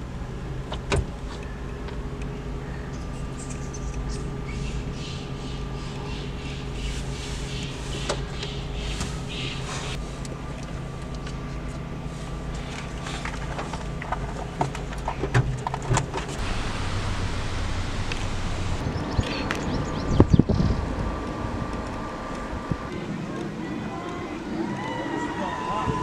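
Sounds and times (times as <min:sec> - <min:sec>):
car engine humming: 0:00.0 - 0:26.0.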